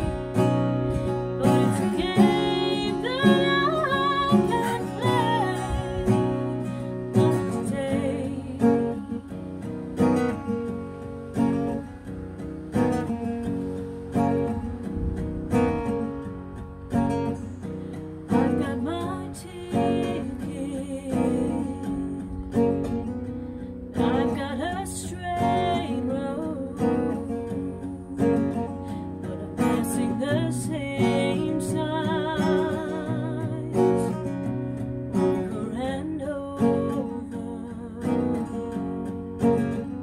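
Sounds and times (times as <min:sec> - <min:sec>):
woman singing: 0:00.0 - 0:11.9, 0:17.1 - 0:40.0
acoustic guitar strumming: 0:00.0 - 0:40.0.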